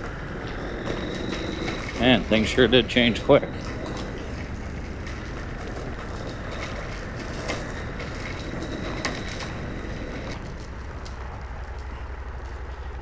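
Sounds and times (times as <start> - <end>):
motorcycle engine: 0.0 - 13.0
wet road noise: 0.0 - 13.0
wind noise: 0.0 - 13.0.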